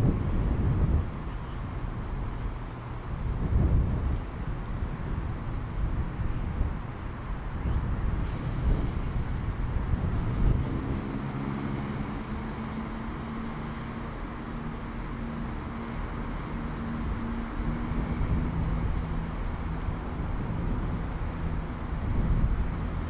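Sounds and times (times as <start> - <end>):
diesel train engines humming: 0.0 - 23.0
train rumble: 0.0 - 23.0.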